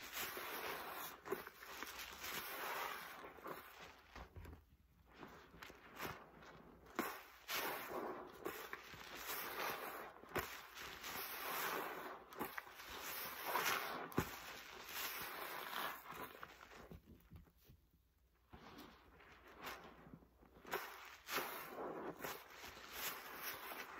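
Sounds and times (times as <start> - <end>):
sponge squelching with foam: 0.0 - 23.9.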